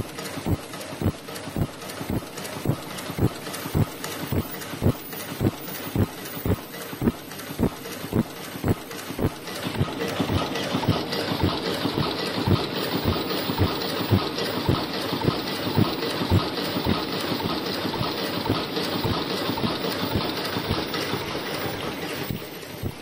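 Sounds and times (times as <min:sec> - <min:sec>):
steady machine noise: 0:00.0 - 0:23.0
welding machine clacking: 0:00.0 - 0:23.0.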